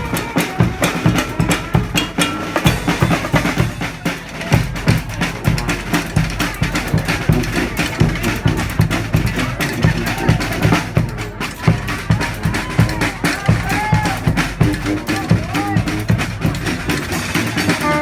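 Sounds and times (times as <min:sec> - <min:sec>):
marching band playing: 0:00.0 - 0:18.0
snare drum strokes: 0:00.0 - 0:18.0
thumping bass drum: 0:00.0 - 0:18.0.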